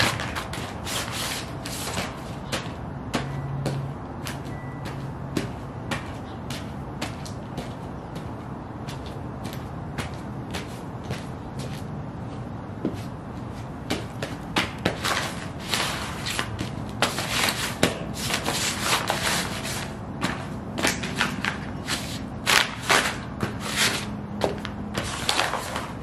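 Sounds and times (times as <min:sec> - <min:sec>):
soft footstep thuds: 0:00.0 - 0:26.0.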